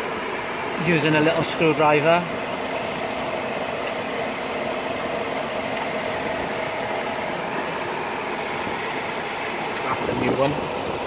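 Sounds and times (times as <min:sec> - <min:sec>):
radiator cooling fan whooshing: 0:00.0 - 0:11.0.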